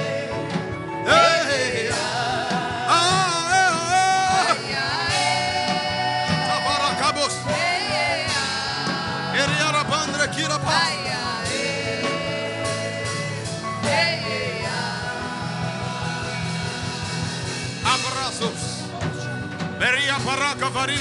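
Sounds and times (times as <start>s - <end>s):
keyboard chords: 0.0s - 21.0s
pulsing bass: 0.0s - 21.0s.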